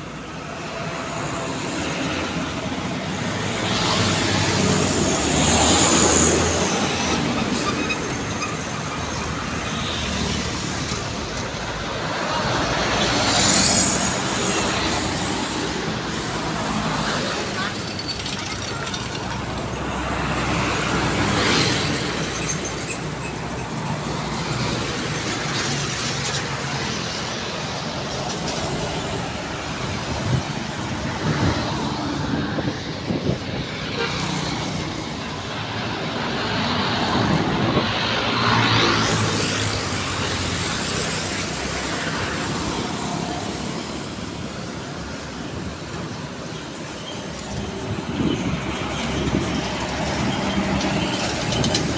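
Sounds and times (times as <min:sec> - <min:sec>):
trucks driving past: 0:00.0 - 0:51.9.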